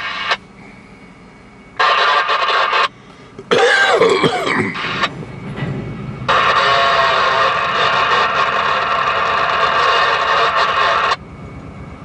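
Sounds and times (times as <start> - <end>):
loud noise bursts with squeal: 0.0 - 12.0
freight train rolling past: 0.4 - 1.8, 3.1 - 12.0.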